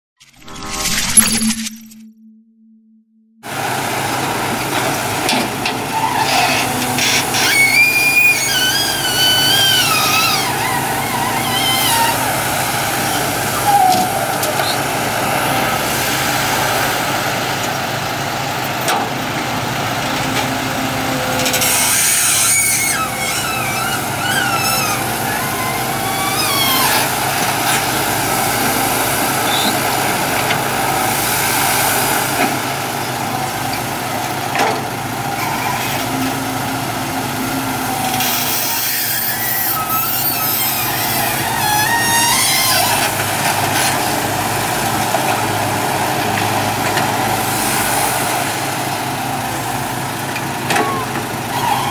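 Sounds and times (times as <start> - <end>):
excavator diesel engine running: 3.4 - 51.9
truck engine idling: 3.5 - 51.9.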